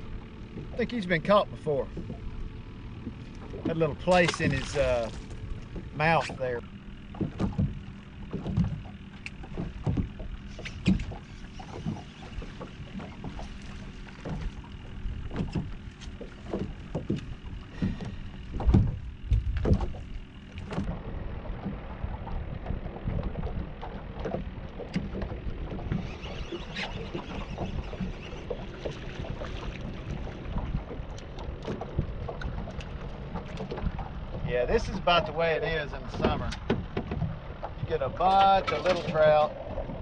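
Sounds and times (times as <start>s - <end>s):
water lapping against boat hull: 0.0s - 40.0s
knocks and thumps on hull: 0.1s - 35.3s, 36.0s - 40.0s.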